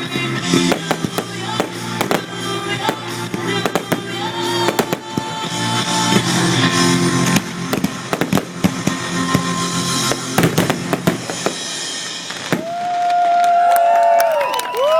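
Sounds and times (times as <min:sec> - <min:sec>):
fireworks bursting and crackling: 0:00.0 - 0:14.6
music: 0:00.0 - 0:14.9.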